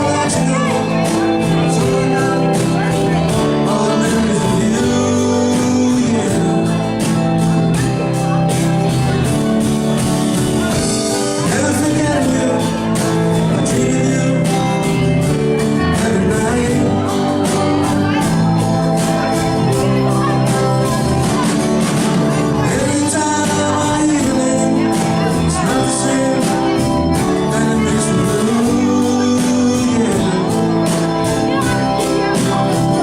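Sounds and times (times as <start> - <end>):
drums beating: 0.0 - 33.0
live band playing: 0.0 - 33.0
person singing: 0.0 - 33.0
sustained guitar notes: 0.0 - 33.0
sustained keyboard notes: 0.0 - 33.0.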